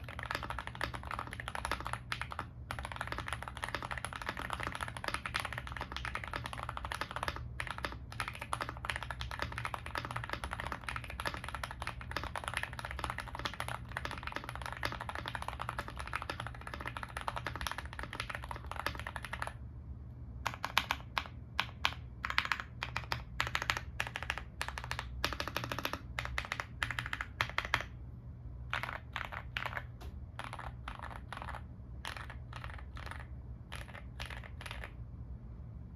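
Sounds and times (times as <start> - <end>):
typing on mechanical keyboard: 0.0 - 19.6, 20.4 - 27.9, 28.7 - 35.0.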